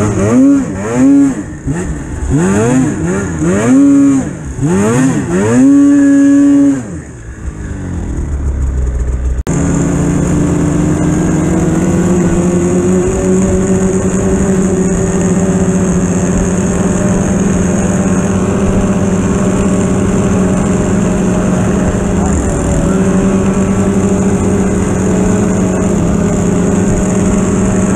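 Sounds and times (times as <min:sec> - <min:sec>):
snowmobile engine revving: 0:00.0 - 0:27.9.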